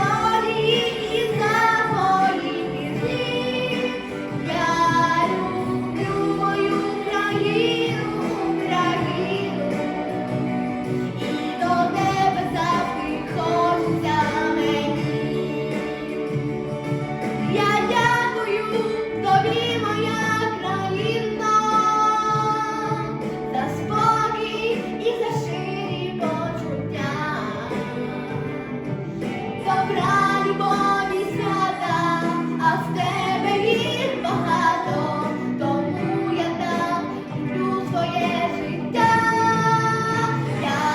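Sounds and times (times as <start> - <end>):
instrumental backing track: 0.0 - 40.9
woman singing: 0.0 - 40.9.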